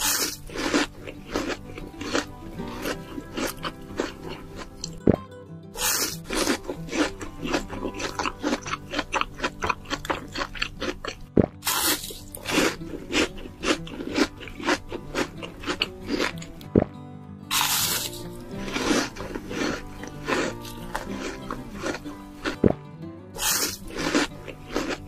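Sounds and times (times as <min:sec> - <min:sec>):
crisp bite into fried food: 0:00.0 - 0:05.0, 0:05.8 - 0:16.9, 0:17.5 - 0:22.6, 0:23.4 - 0:25.0
chewing crunches: 0:00.0 - 0:05.1, 0:05.8 - 0:16.9, 0:17.5 - 0:22.8, 0:23.4 - 0:25.0
background music: 0:00.0 - 0:25.0.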